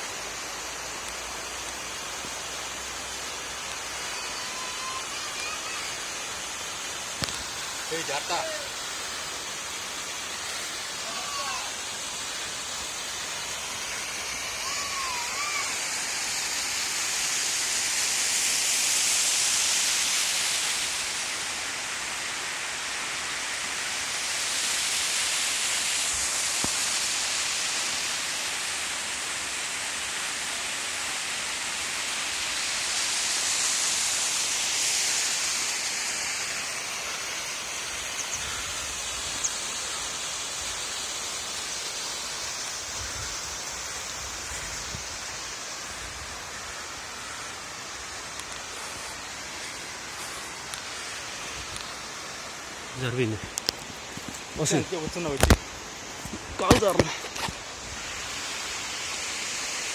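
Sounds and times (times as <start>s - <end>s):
waterfall pouring: 0.0s - 59.9s.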